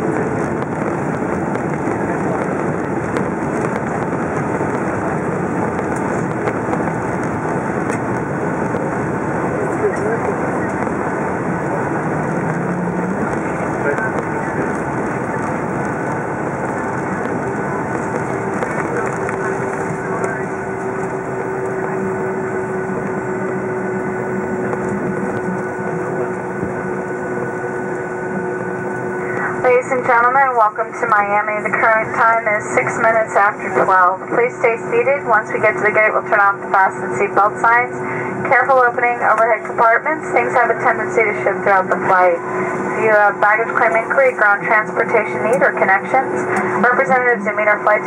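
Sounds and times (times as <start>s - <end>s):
airliner engine and airflow noise: 0.0s - 48.0s.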